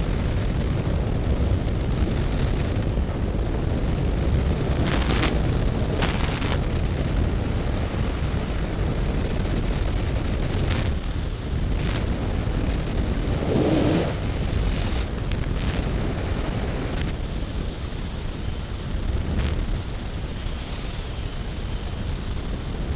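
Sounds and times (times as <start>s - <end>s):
wind roaring over microphone: 0.0s - 22.9s.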